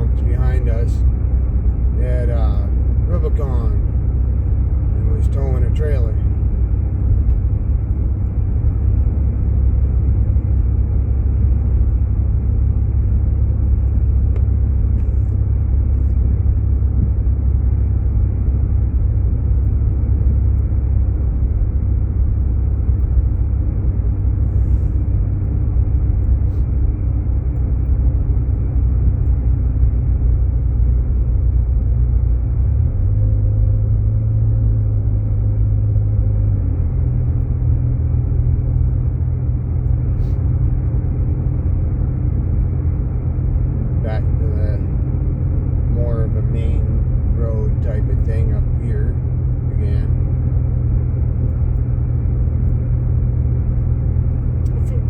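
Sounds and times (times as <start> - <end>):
car engine rumble inside cabin: 0.0 - 55.0
tyres on snowy road: 0.0 - 55.0.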